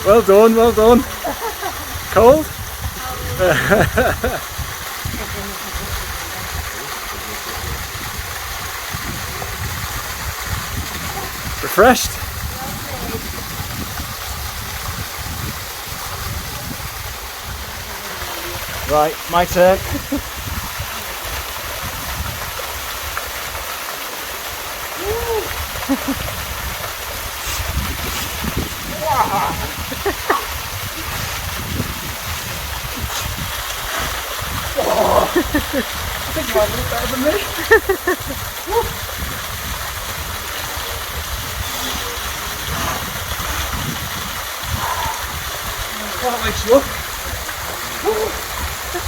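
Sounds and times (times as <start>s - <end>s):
waterfall pouring over rock: 0.0s - 49.0s.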